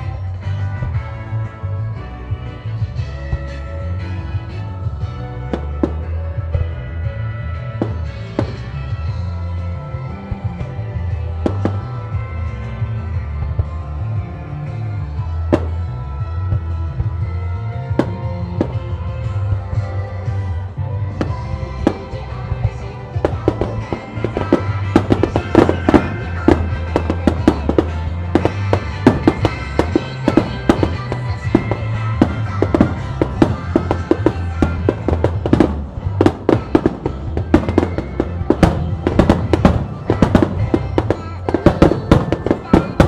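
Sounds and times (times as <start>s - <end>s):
music with bass line: 0.0s - 43.0s.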